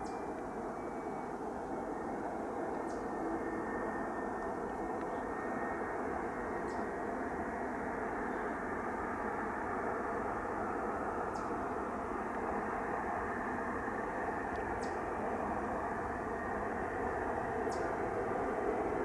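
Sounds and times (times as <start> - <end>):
faint steady whine: 0.0 - 19.0
jet engine rumble: 0.0 - 19.0.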